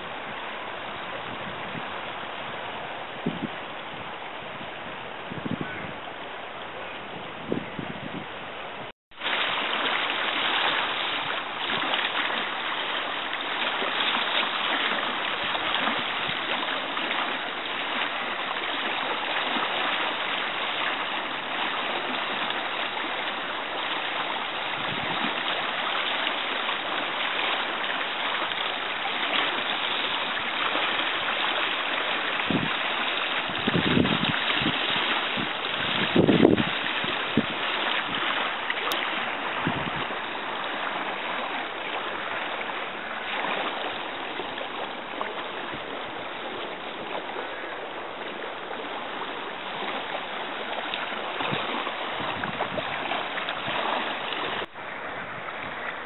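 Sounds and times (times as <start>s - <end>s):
standing waves breaking: 0.0s - 56.0s
river water rushing: 9.2s - 56.0s.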